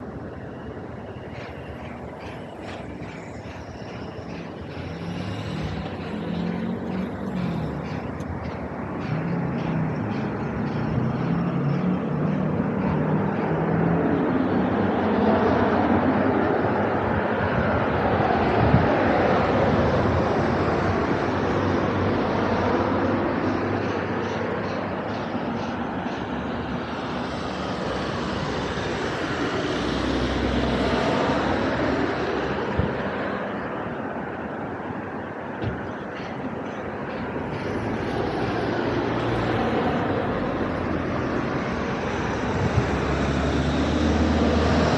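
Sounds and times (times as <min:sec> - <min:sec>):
low droning engine: 0:00.0 - 0:34.6, 0:36.2 - 0:44.9
outdoor background rumble: 0:00.0 - 0:44.9.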